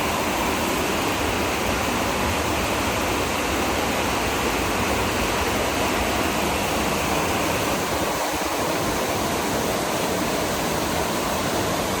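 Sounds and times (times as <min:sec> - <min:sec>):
heavily falling water rushing: 0:00.0 - 0:12.0.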